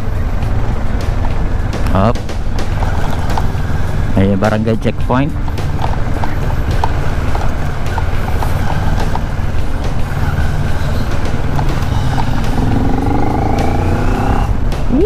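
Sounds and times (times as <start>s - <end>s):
motorcycle engine droning: 0.0s - 15.0s
road and wind noise: 0.0s - 15.0s.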